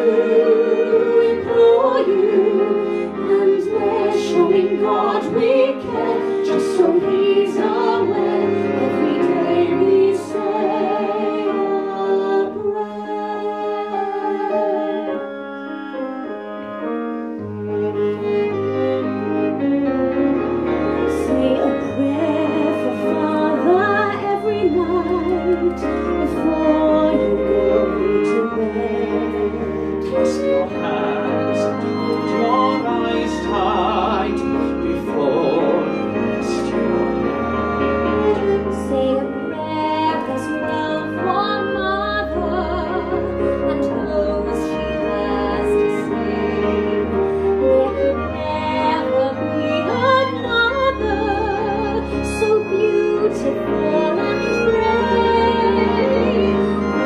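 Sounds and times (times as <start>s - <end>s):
piano: 0.0s - 57.0s.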